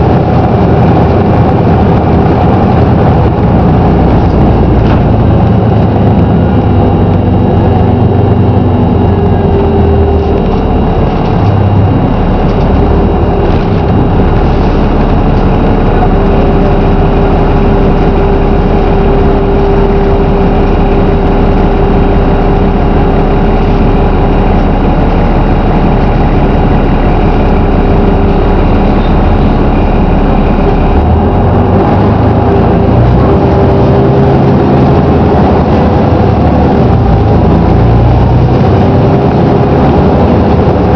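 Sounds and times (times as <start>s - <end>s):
bus diesel engine running: 0.0s - 40.9s
constant hum: 0.0s - 40.9s.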